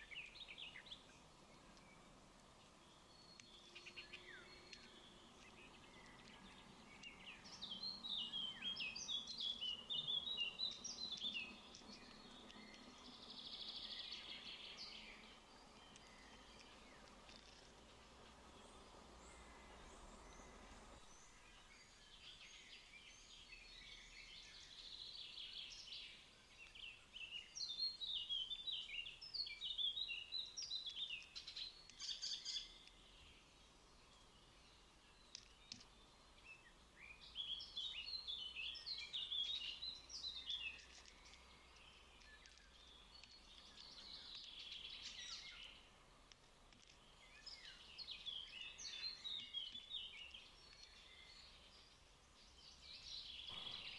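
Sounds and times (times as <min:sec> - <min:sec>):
birds chirping and singing: 0:00.0 - 0:45.9, 0:46.8 - 0:53.9
faint outdoor background noise: 0:00.0 - 0:53.9.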